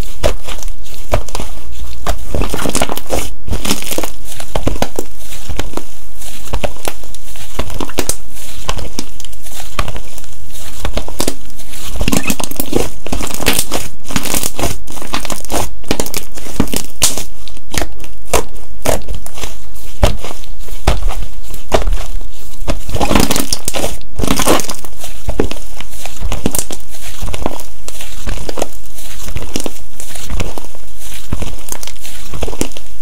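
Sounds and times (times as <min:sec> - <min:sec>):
slime crackling and popping: 0:00.0 - 0:33.0.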